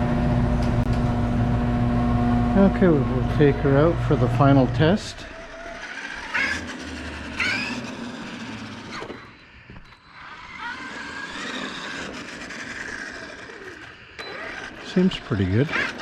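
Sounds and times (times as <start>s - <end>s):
electric rc truck motor whine: 2.6s - 16.0s.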